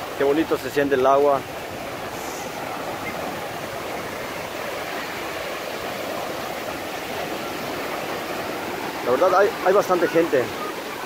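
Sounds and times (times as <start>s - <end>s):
small waves washing over sand: 0.0s - 11.0s.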